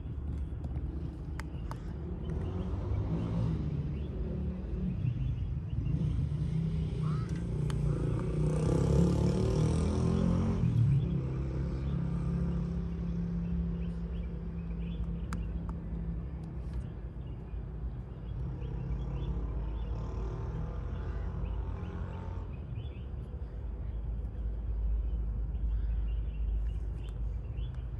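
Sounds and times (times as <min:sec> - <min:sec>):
vehicle engine droning: 0:00.0 - 0:27.9.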